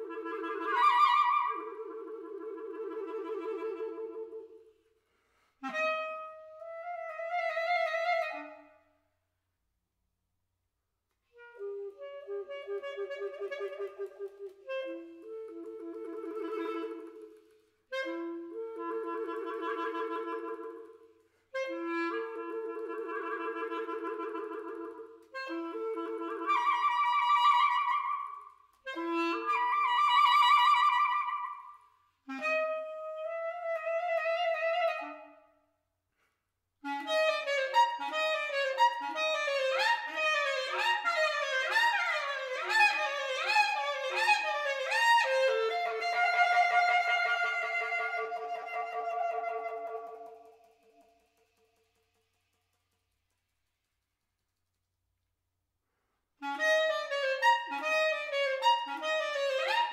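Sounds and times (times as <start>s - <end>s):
solo clarinet: 0.0s - 9.1s, 11.1s - 51.6s, 56.4s - 59.9s.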